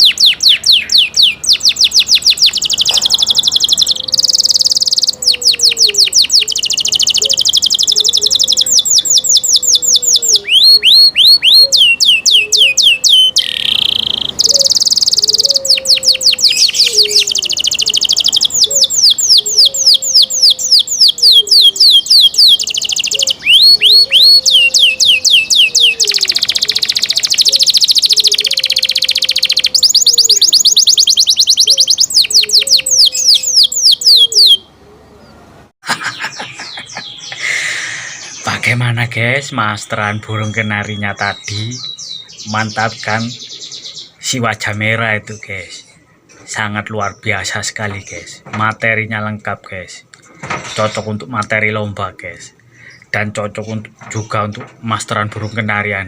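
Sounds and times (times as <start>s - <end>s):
canary singing trills: 0.0s - 35.5s, 36.1s - 49.3s, 50.8s - 56.0s.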